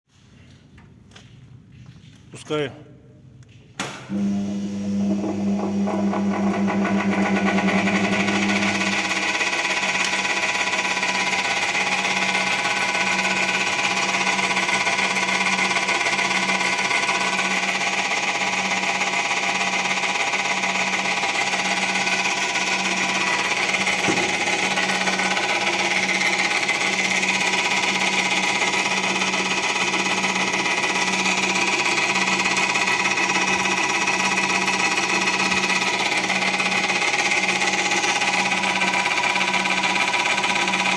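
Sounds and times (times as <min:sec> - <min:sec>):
electric motor running: 0:04.1 - 0:40.9.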